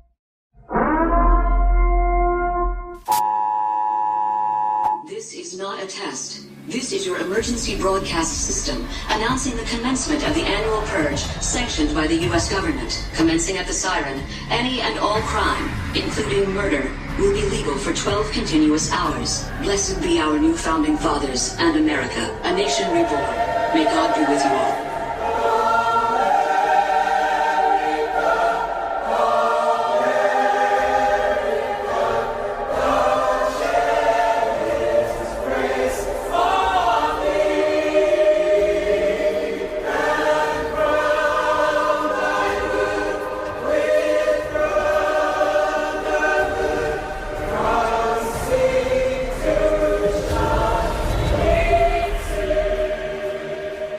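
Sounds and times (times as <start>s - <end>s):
choir singing sustained chords: 6.3s - 53.9s.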